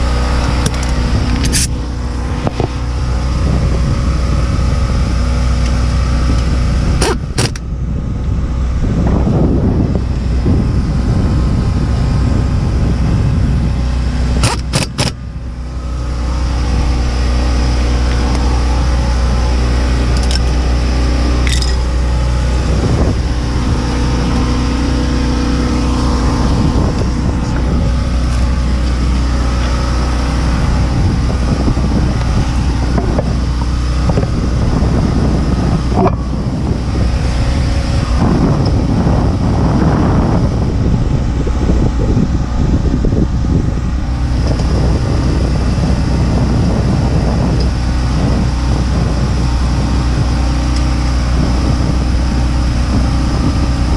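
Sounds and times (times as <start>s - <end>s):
car engine hum: 0.0s - 53.9s
road noise: 0.0s - 53.9s.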